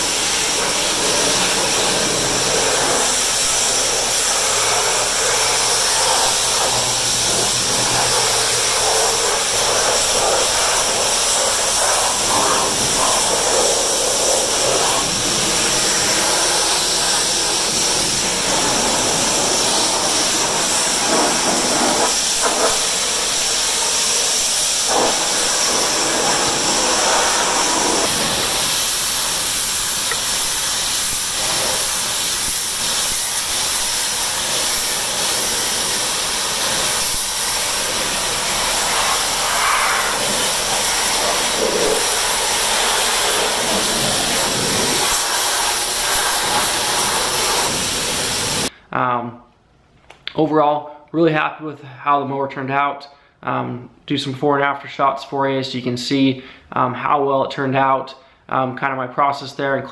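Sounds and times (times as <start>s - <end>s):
pressure washer jet hissing: 0.0s - 48.7s.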